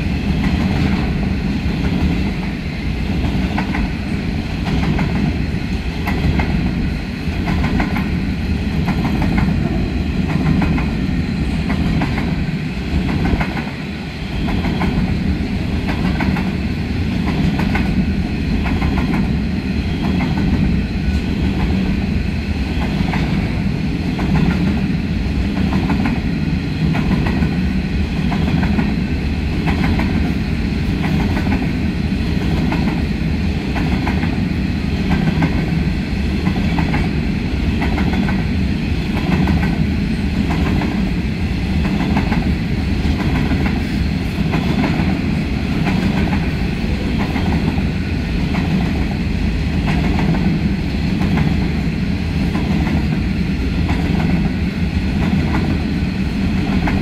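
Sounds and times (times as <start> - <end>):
train wheels rumbling on rail: 0.0 - 57.0
wheels clickety-clack: 3.2 - 6.8, 7.4 - 11.0, 11.6 - 13.8, 14.4 - 22.0, 22.7 - 24.9, 25.5 - 33.0, 33.6 - 34.4, 35.0 - 53.2, 53.8 - 55.9, 56.6 - 57.0.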